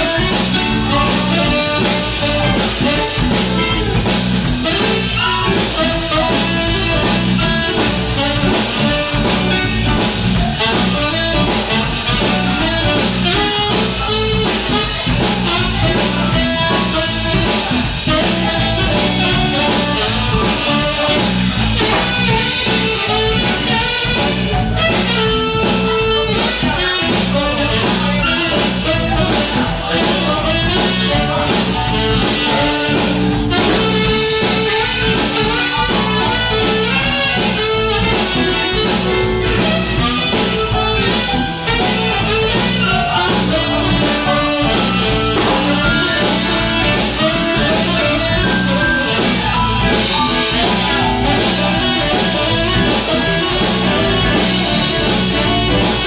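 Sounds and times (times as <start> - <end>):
bass guitar: 0.0 - 56.0
drum kit: 0.0 - 56.0
electric guitar: 0.0 - 56.0
saxophone: 0.0 - 56.0.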